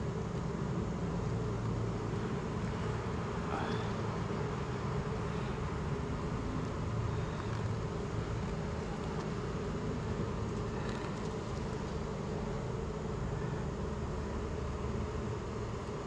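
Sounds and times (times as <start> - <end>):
honeybees buzzing: 0.9 - 16.0.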